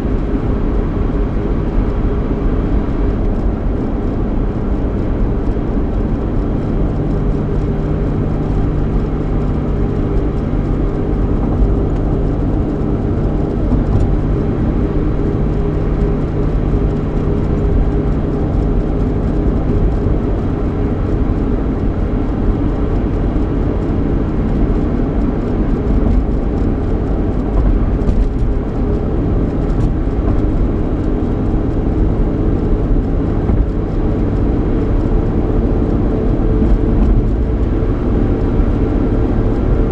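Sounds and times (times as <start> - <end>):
car engine drone: 0.0 - 39.9
road noise inside car: 0.0 - 39.9.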